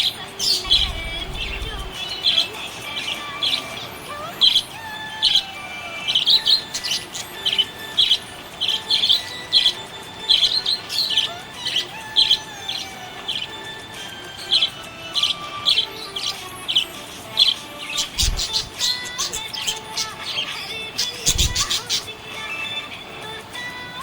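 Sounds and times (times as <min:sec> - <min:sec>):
parrots chirping: 0:00.0 - 0:23.9.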